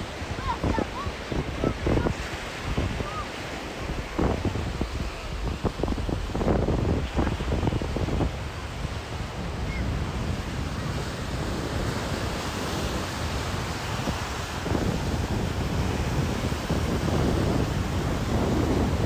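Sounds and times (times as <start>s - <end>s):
ocean surf on beach: 0.0s - 19.0s
wind on microphone: 0.0s - 19.0s.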